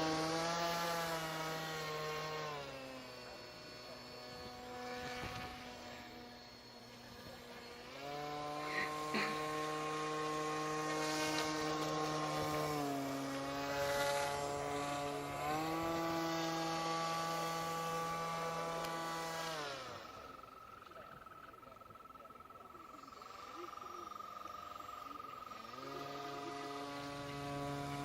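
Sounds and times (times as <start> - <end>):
model airboat motor and propeller: 0.0 - 28.0.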